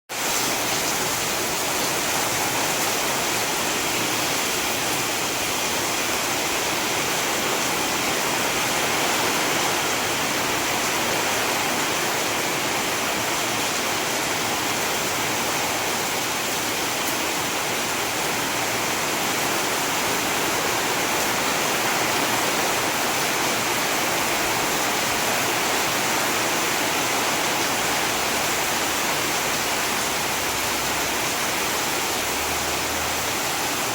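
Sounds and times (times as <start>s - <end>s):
heavy rain falling: 0.1s - 33.9s.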